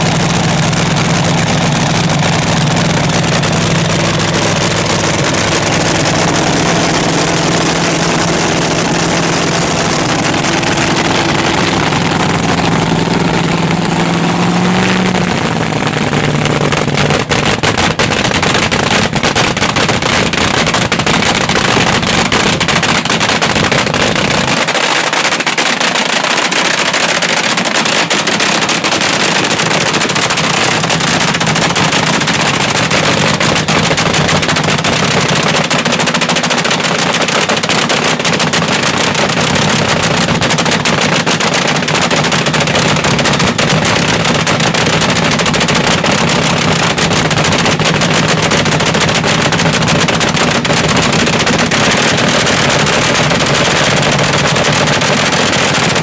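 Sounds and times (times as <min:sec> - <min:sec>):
dragster engine crackling exhaust: 0:00.0 - 0:56.0.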